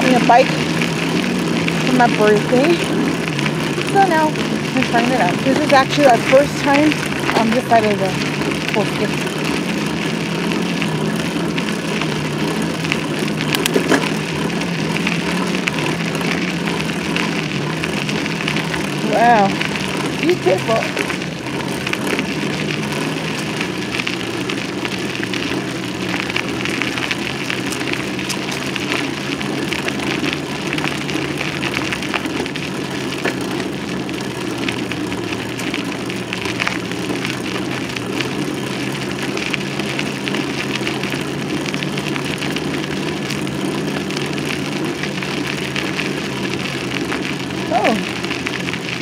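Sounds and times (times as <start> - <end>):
bicycle tyre rumble on dirt: 0.0 - 49.0.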